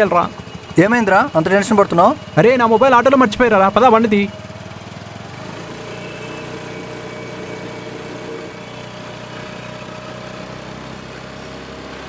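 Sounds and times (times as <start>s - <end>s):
road traffic: 0.0s - 12.0s
scooter engine running: 0.0s - 12.0s.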